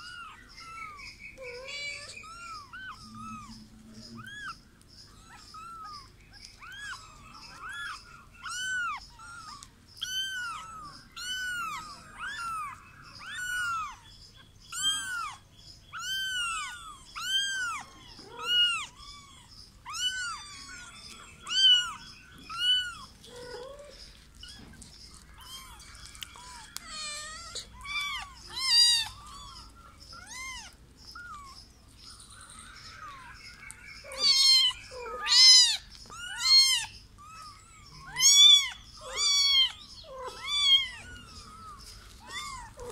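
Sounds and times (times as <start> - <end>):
kittens mewing: 0.0 - 42.9.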